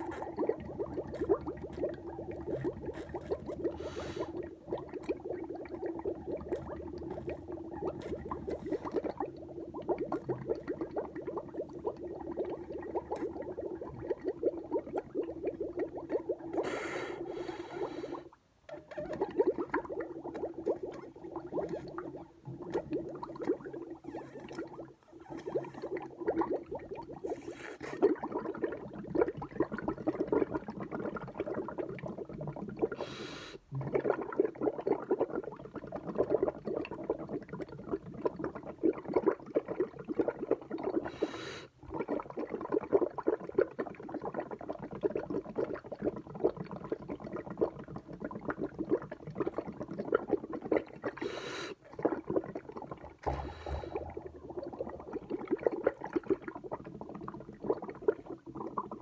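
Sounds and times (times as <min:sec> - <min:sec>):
milk bubbling through a straw: 0:00.0 - 0:59.0.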